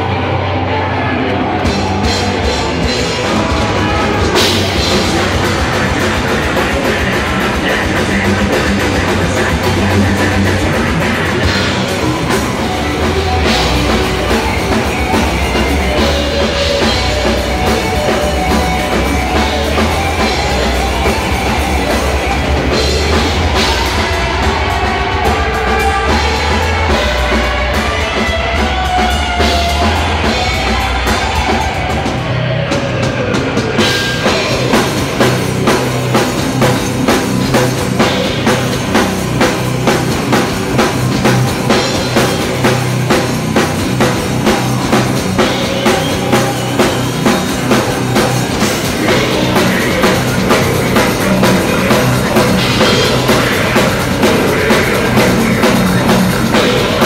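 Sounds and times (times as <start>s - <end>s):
distorted electric guitars: 0.0s - 57.0s
heavy metal band playing: 0.0s - 57.0s
drum kit: 1.2s - 57.0s.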